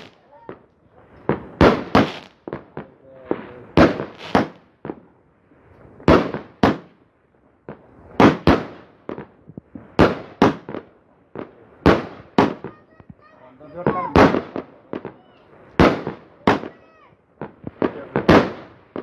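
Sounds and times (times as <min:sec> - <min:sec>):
faint firework cracks: 0:00.0 - 0:05.1, 0:07.6 - 0:19.0
fireworks bangs: 0:00.0 - 0:19.0.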